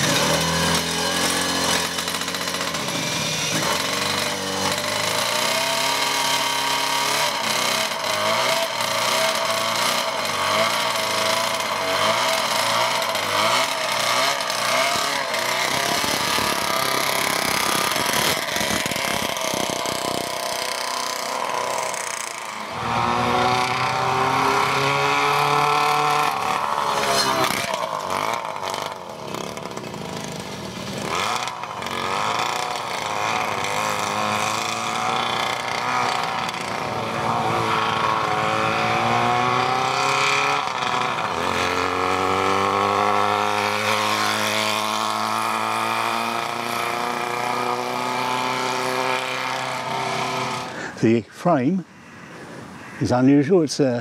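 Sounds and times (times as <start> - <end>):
two-stroke engine revving: 0.0 - 53.2.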